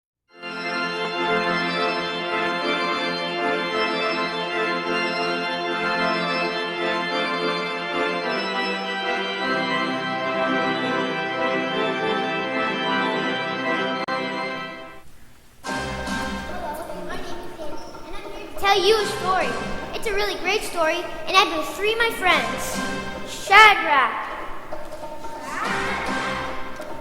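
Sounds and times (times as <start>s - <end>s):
organ chords: 0.4s - 27.0s.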